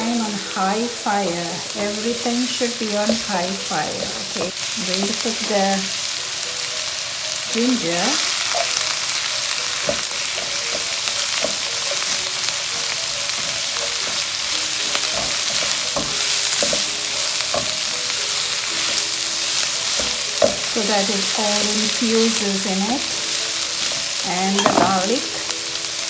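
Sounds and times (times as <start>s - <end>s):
onions sizzling in hot oil: 0.0s - 26.0s
utensil scraping and knocking wok: 1.4s - 5.8s, 7.5s - 26.0s.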